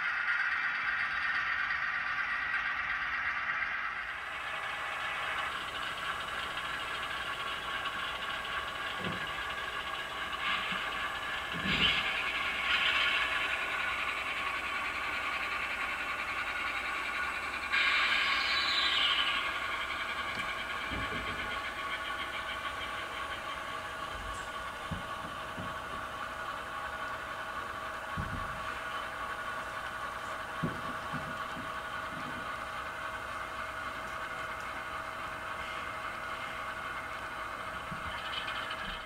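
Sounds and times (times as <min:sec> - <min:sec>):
diesel engine sound through speakers: 0:00.0 - 0:39.0.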